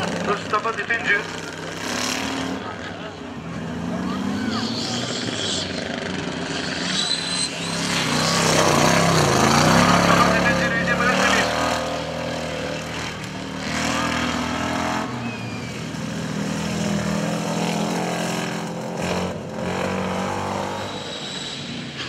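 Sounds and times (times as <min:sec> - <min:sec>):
off-road vehicle engines under load: 0:00.0 - 0:22.0.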